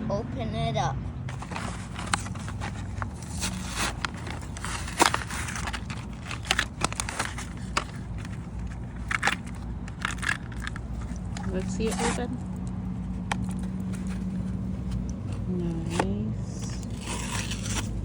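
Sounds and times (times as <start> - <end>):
cardboard crackling and scraping: 1.3 - 18.0.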